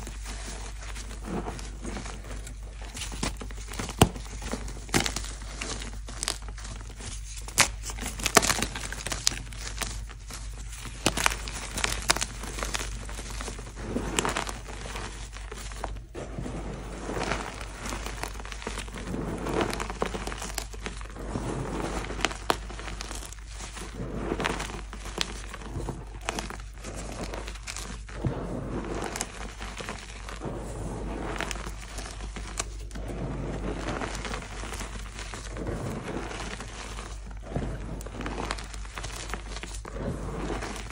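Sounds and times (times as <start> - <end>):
chalk crumbling between palms: 0.0 - 40.9.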